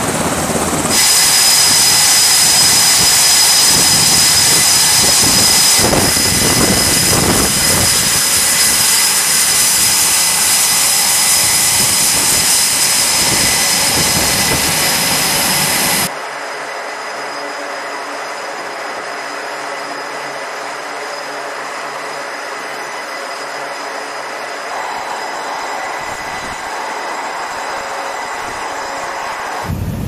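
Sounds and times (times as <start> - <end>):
high jet engine whine: 0.0 - 30.0
jet engines roaring: 0.0 - 30.0.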